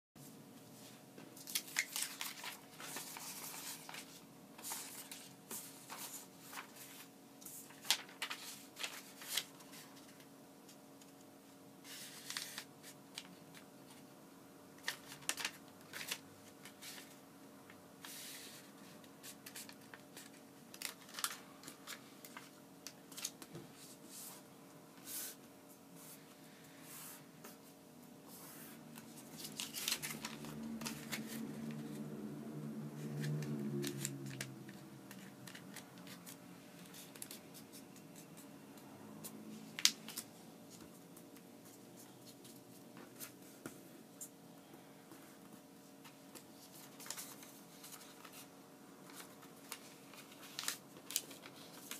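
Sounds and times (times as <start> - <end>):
paper rustling and crinkling: 1.3 - 11.2, 11.8 - 14.1, 14.8 - 17.2, 18.0 - 24.4, 28.3 - 32.2, 32.9 - 38.5, 39.7 - 44.3, 45.1 - 51.9.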